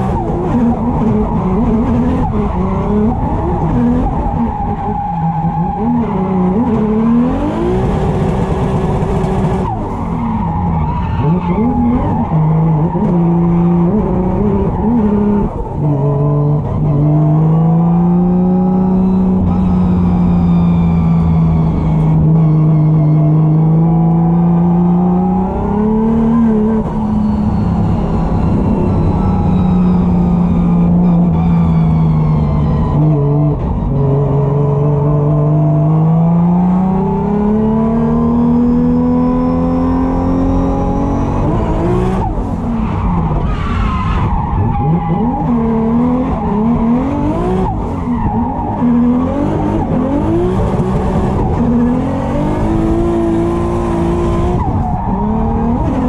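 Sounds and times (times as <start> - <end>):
tires squealing: 0.0 - 34.1, 35.4 - 56.0
car engine revving: 0.0 - 56.0.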